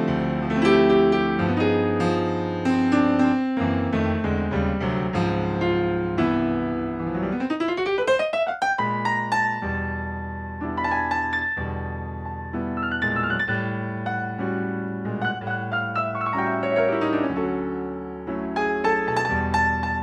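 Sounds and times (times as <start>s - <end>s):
jazz piano: 0.0s - 20.0s.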